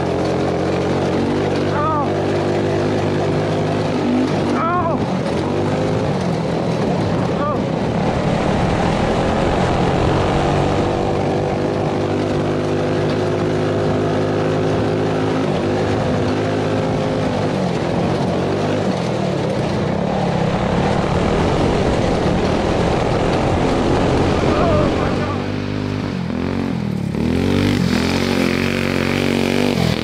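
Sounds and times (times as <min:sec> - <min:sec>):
go-kart engine running hard: 0:00.0 - 0:30.0.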